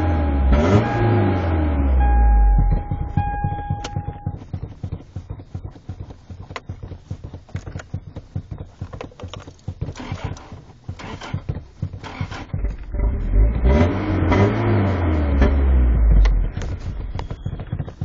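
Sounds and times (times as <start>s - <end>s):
car engine cranking on starter: 1.8s - 18.0s.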